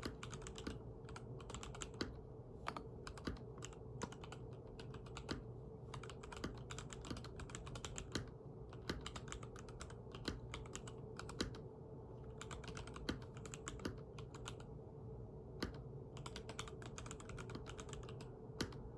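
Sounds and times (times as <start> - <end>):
mechanical keyboard typing: 0.0 - 11.6, 12.3 - 14.7, 15.6 - 18.8.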